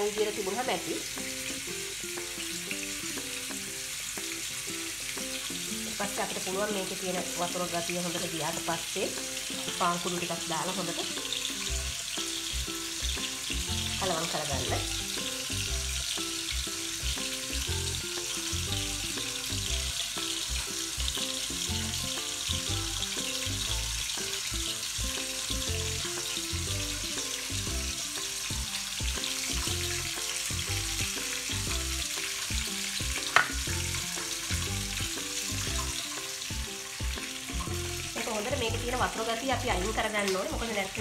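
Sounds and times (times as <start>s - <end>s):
slow background music: 0.0s - 41.0s
steady sizzling hiss: 0.0s - 41.0s.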